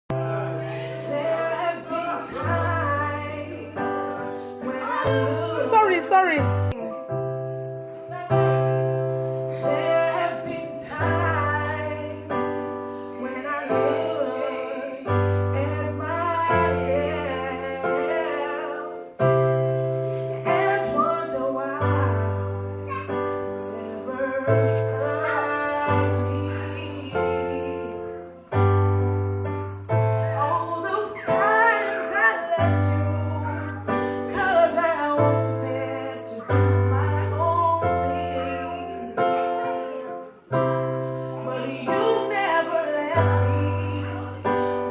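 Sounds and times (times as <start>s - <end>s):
piano chords: 0.0s - 44.9s
person singing: 0.1s - 7.2s, 7.8s - 44.9s.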